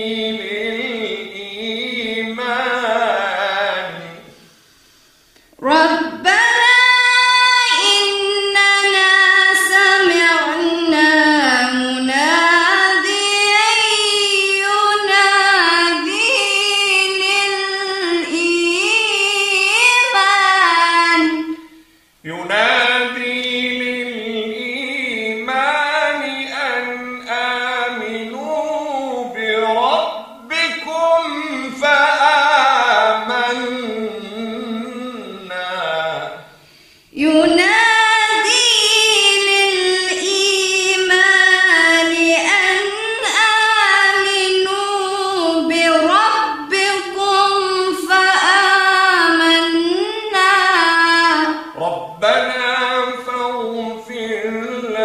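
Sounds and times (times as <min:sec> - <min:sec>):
woman chanting recitation: 0:00.0 - 0:04.3, 0:05.6 - 0:36.6, 0:37.2 - 0:55.0
lower voice chanting: 0:00.0 - 0:04.5, 0:05.6 - 0:36.6, 0:37.2 - 0:55.0.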